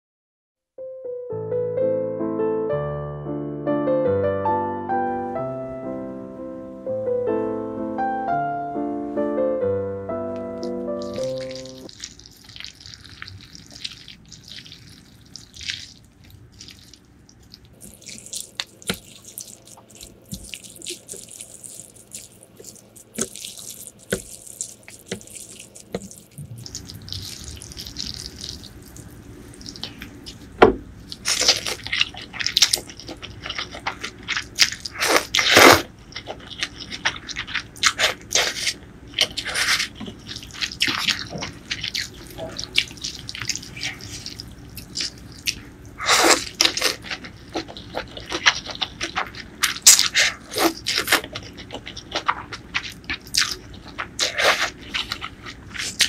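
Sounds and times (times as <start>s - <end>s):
noodles squelching in broth: 10.6s - 56.0s.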